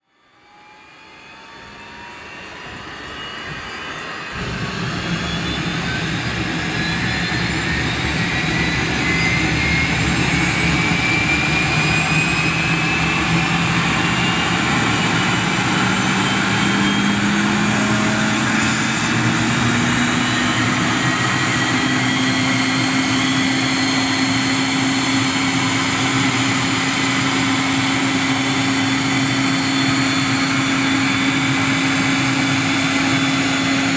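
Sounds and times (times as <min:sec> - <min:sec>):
jet engine whine rising: 0:00.0 - 0:33.9
deep engine rumble: 0:04.3 - 0:33.9.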